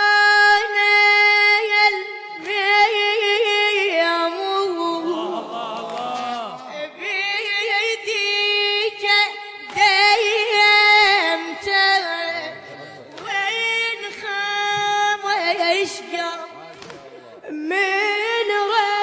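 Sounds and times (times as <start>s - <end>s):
boy chanting devotional poem: 0.0s - 19.0s.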